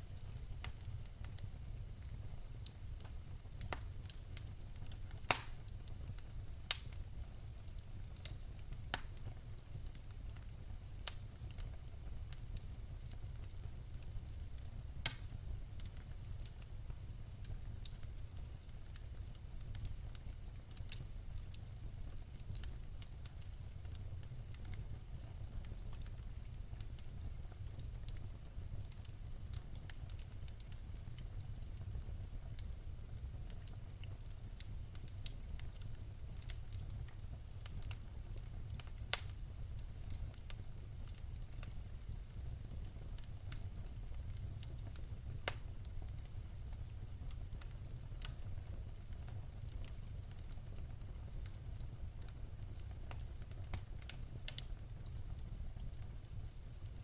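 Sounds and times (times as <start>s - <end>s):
fire rumbling: 0.0s - 57.0s
logs crackling and popping: 0.1s - 57.0s.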